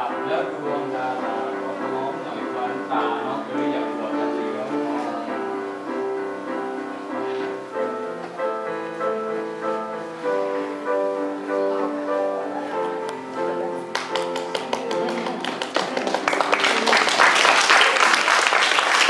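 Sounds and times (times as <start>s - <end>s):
instrumental music: 0.0s - 17.4s.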